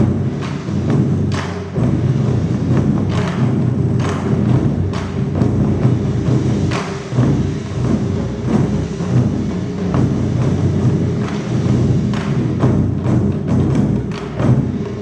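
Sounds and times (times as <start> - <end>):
taiko drums playing: 0.0 - 15.0.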